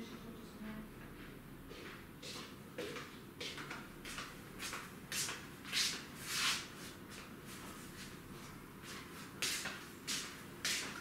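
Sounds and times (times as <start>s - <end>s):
slippered footsteps on tiled floor: 1.2s - 11.0s.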